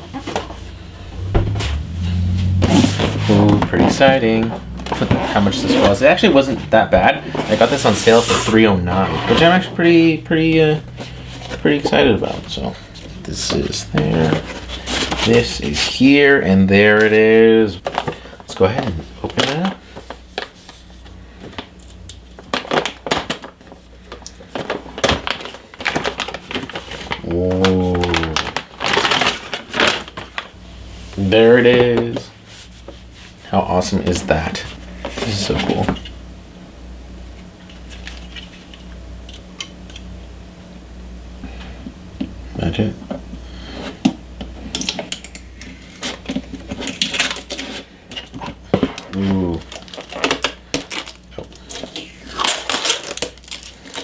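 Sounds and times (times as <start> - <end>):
cardboard and wrapping crinkling: 0.0 - 36.1, 44.8 - 54.0.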